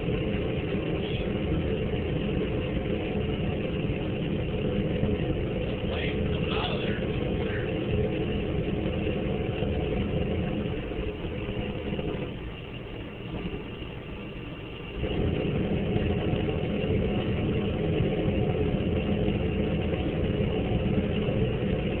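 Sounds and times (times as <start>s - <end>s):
space heater running: 0.0s - 22.0s.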